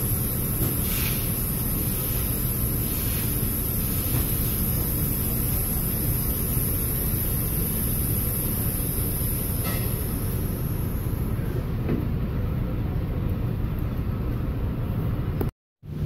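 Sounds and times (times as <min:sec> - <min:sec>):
low rumble of repair shop: 0:00.0 - 0:16.0.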